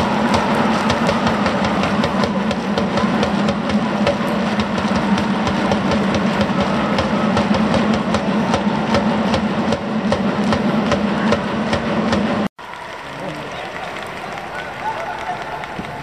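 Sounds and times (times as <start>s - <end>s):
hand claps: 0.0s - 9.4s, 11.7s - 16.0s
crowd hum: 0.0s - 16.0s.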